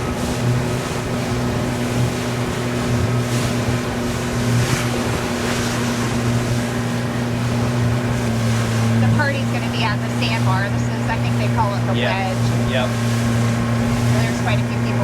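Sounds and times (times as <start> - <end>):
motorboat engine humming: 0.0 - 15.0
water rushing: 0.0 - 15.0
wind: 0.0 - 15.0.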